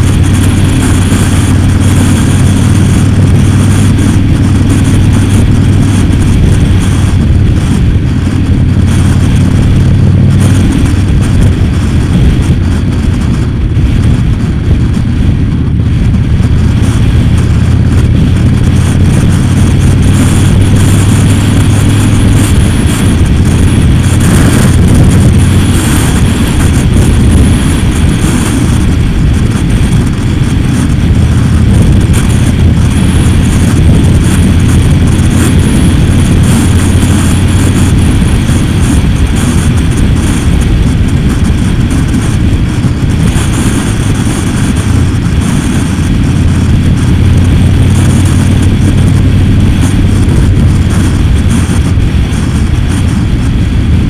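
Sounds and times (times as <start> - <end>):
motorcycle engine running: 0.0 - 54.0
road noise: 0.0 - 54.0
wind noise: 0.0 - 54.0.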